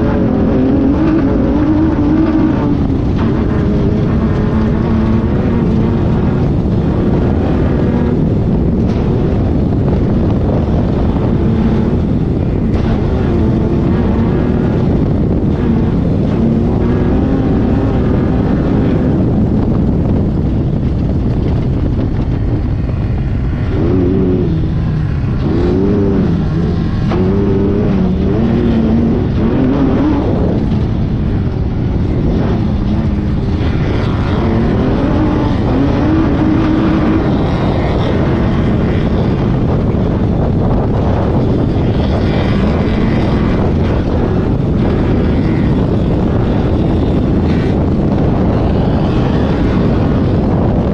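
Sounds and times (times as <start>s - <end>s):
race car engine revving: 0.0s - 50.9s
wind and running noise: 0.0s - 50.9s.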